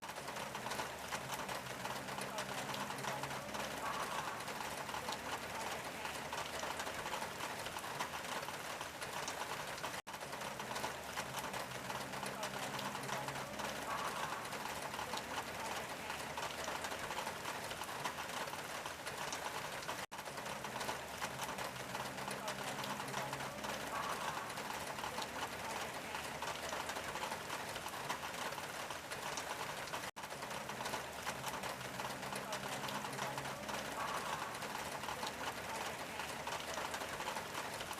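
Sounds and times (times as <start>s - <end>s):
rain on a tin roof: 0.0s - 37.9s.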